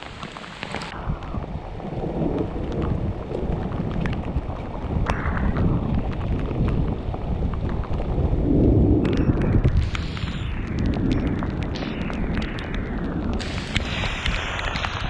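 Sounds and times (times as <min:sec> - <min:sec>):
deep steady rumble: 0:00.0 - 0:15.0
heavy rain: 0:00.0 - 0:15.0
sharp raindrop hits: 0:00.0 - 0:15.0.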